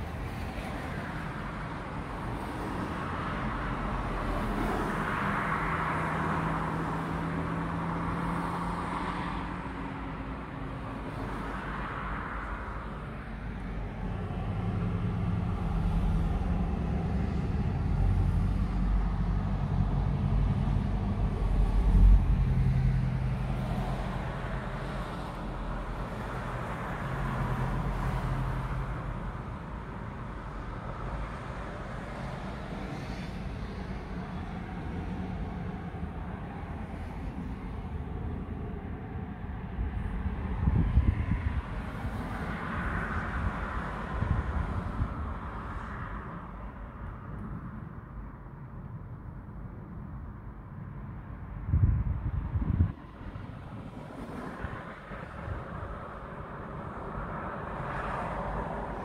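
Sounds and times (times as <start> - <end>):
cars and trucks passing: 0.0 - 59.0.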